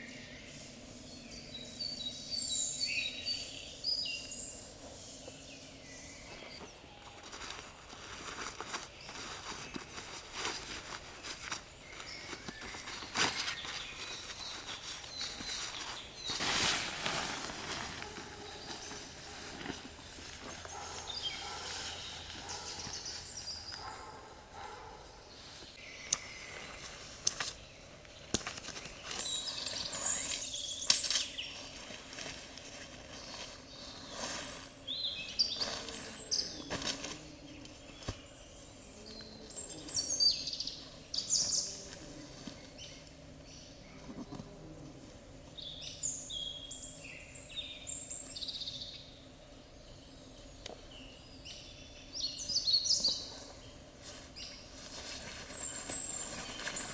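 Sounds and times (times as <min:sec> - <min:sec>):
birds chirping: 0:00.0 - 0:44.6, 0:45.5 - 0:56.9
steady background hiss: 0:00.0 - 0:56.9.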